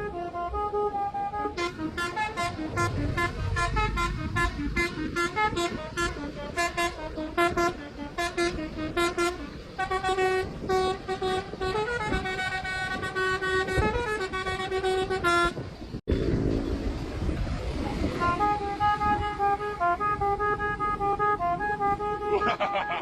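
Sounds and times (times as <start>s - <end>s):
multi-tone musical horn: 0.0s - 15.7s, 17.9s - 23.0s
road noise: 0.0s - 23.0s.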